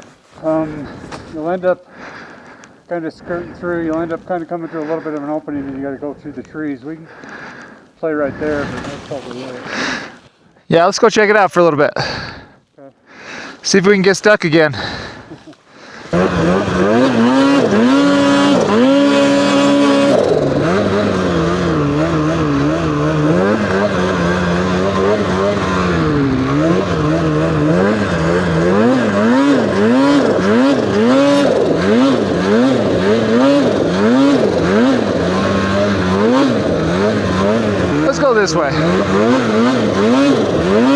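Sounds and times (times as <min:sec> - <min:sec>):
snowmobile engine revving: 0:00.0 - 0:02.2, 0:02.8 - 0:10.2, 0:13.7 - 0:40.9.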